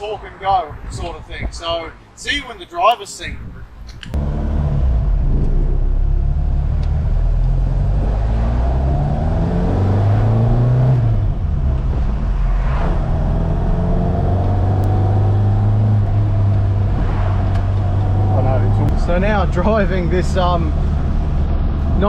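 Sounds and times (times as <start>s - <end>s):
rally car engine accelerating: 4.1s - 22.0s.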